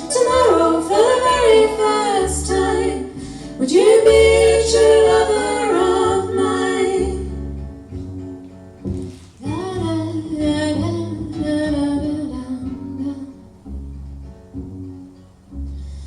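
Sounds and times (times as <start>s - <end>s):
guitar backing: 0.0s - 16.0s.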